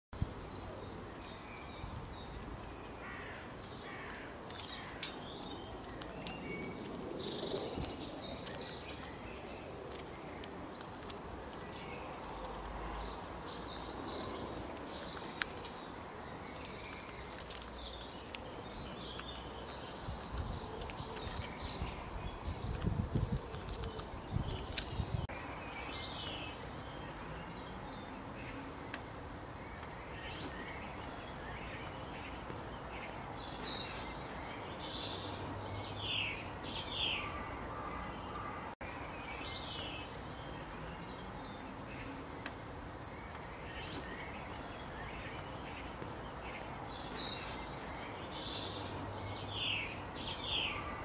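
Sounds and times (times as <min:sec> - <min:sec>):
songbirds chirping and singing: 0:00.2 - 0:51.0
steady outdoor hiss: 0:00.2 - 0:51.0.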